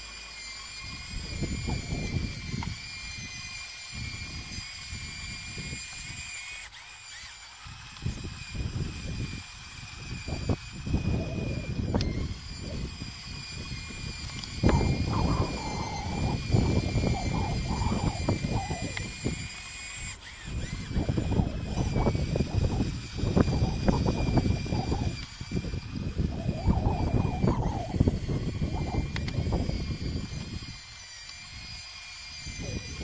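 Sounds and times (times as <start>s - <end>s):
electric motors whining: 0.0s - 33.0s.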